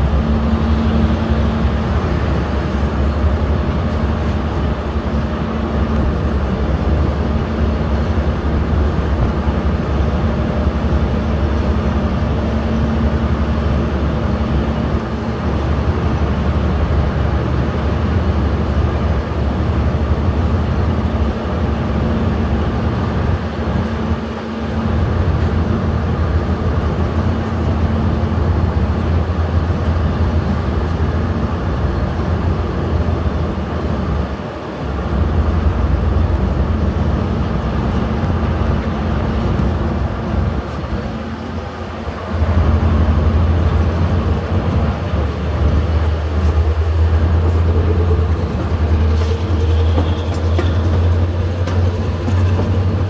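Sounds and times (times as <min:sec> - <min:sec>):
train coaches rumbling on track: 0:00.0 - 0:53.0.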